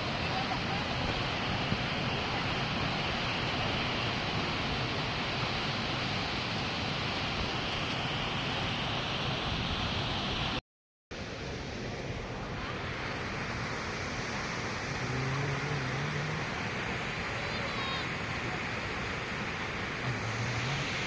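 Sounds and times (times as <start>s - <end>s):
waterfall rushing: 0.0s - 10.5s, 12.5s - 21.0s.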